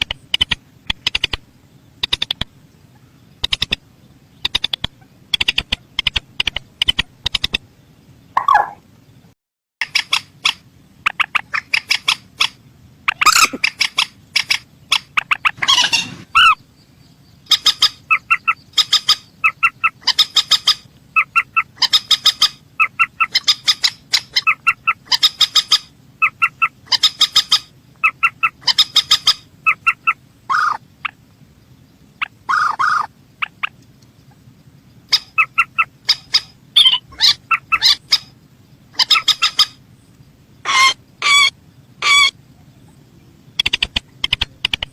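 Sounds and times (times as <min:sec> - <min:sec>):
bird clicking calls: 0:00.0 - 0:02.6, 0:03.4 - 0:03.8, 0:04.4 - 0:07.6, 0:08.4 - 0:08.8, 0:09.8 - 0:16.6, 0:17.5 - 0:31.3, 0:32.2 - 0:34.4, 0:35.0 - 0:38.3, 0:39.0 - 0:42.3, 0:43.6 - 0:44.9
harsh bird calls: 0:00.0 - 0:09.2, 0:09.8 - 0:44.9.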